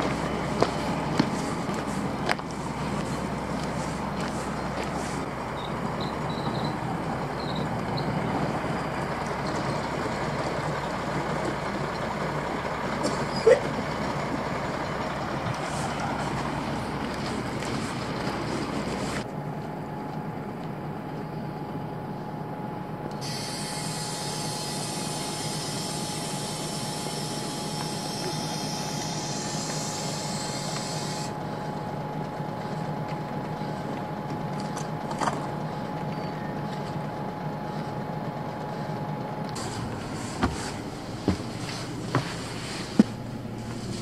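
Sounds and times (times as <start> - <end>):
diesel vehicles idling: 0.0 - 44.0.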